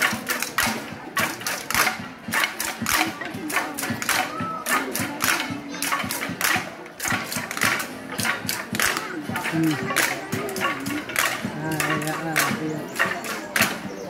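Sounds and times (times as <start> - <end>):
rapid sharp clacks: 0.0 - 13.9
crowd chattering: 0.0 - 14.0.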